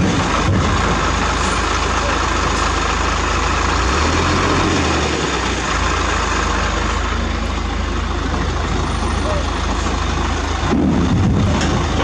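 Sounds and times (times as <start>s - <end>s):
heavy diesel engine idling: 0.0s - 12.0s.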